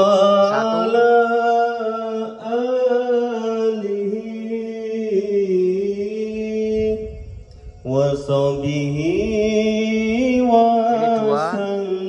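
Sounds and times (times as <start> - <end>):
devotional chanting over loudspeaker: 0.0 - 12.0.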